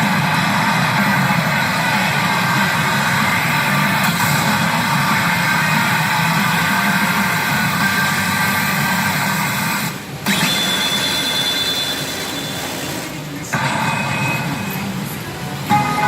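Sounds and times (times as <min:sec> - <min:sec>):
pachinko machine noise: 0:00.0 - 0:16.0
steady high tone: 0:00.0 - 0:16.0.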